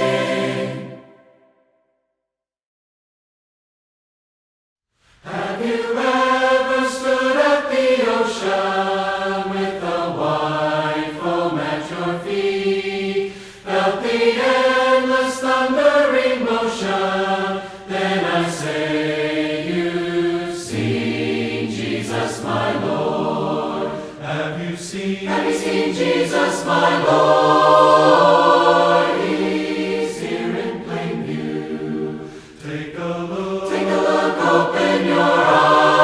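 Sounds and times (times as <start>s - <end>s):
group singing a hymn: 0.0s - 1.5s, 5.2s - 36.0s.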